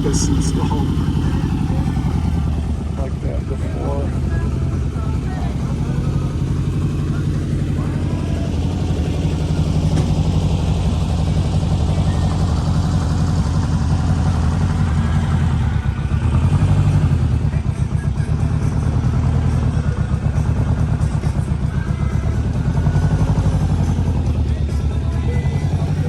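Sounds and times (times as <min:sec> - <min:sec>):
vehicle engine throbbing: 0:00.0 - 0:26.0.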